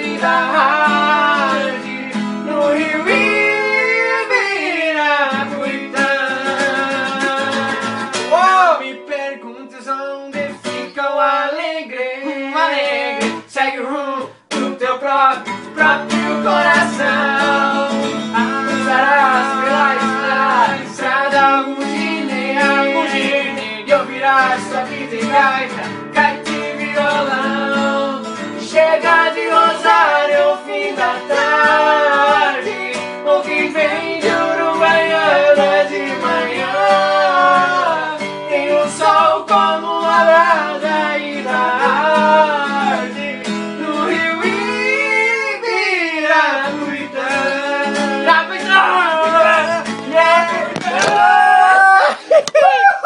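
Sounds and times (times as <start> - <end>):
strummed acoustic guitar: 0.0 - 52.3
men singing: 0.0 - 53.0.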